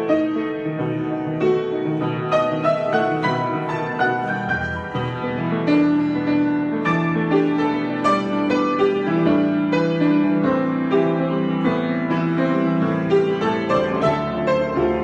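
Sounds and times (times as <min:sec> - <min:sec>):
solo piano improvisation: 0:00.0 - 0:15.0.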